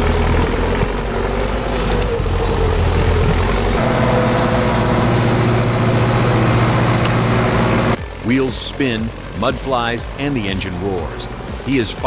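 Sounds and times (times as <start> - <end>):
heavy vehicle engine under load: 0.0 - 12.0.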